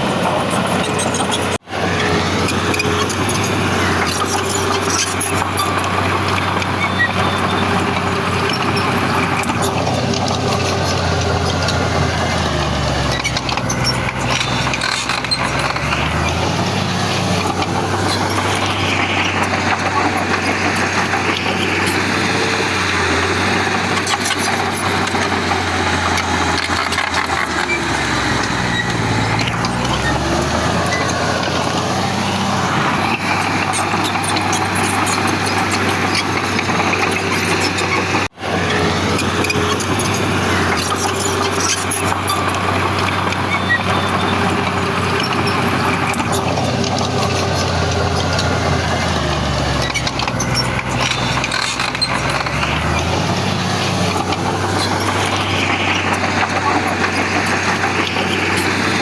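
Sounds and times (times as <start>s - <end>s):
heavy diesel engine running hard: 0.0s - 59.0s.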